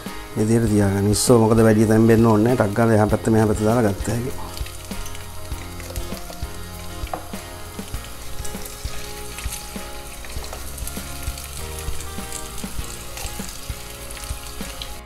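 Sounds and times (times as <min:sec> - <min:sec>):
prawns sizzling in hot oil: 0:00.0 - 0:15.0.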